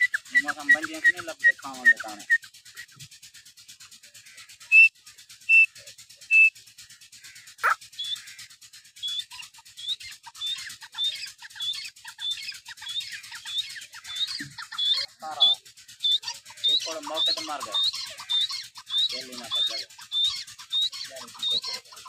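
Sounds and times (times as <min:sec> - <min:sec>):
bird whistled notes: 0:00.0 - 0:22.0
short high bird chirps: 0:00.0 - 0:22.0.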